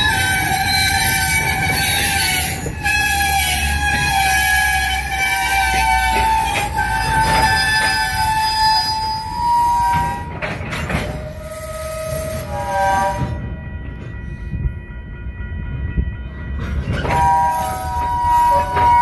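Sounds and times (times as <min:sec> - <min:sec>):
freight train wheels squealing: 0:00.0 - 0:14.7, 0:16.6 - 0:19.0
low train rumble: 0:00.0 - 0:19.0.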